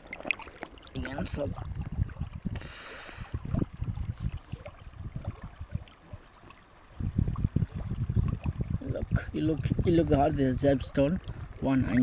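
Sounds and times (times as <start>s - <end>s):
river water gurgling: 0.0s - 12.0s.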